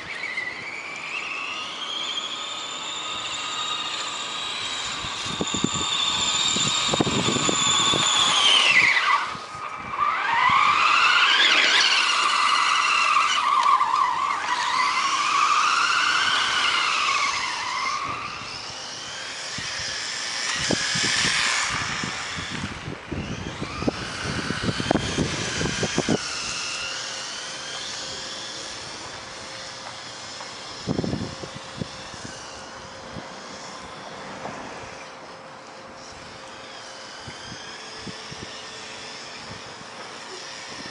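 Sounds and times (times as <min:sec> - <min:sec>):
electric motor whining: 0:00.0 - 0:40.9.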